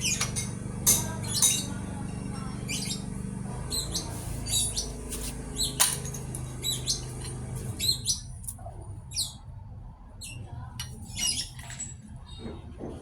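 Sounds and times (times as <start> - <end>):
birds chirping: 0.0 - 8.4, 10.2 - 12.6.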